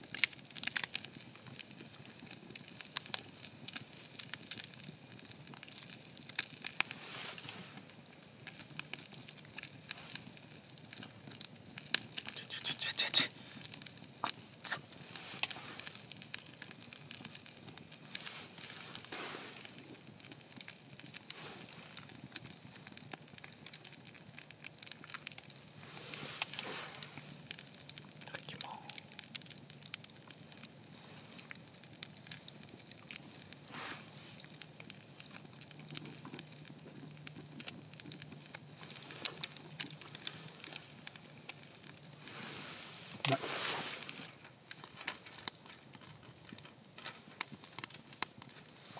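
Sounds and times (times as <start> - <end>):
campfire crackling: 0.0 - 48.9.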